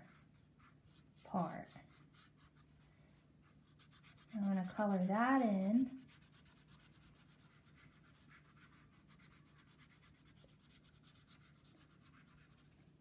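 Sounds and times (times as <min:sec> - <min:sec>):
marker scratching on paper: 0:00.0 - 0:02.8, 0:03.4 - 0:12.7.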